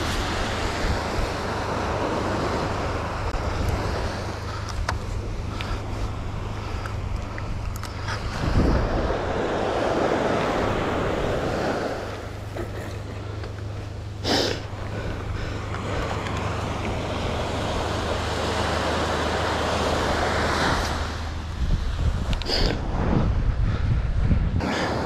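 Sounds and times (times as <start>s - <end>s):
surf washing up beach: 0.0s - 23.5s
wind rumbling on microphone: 0.0s - 25.0s.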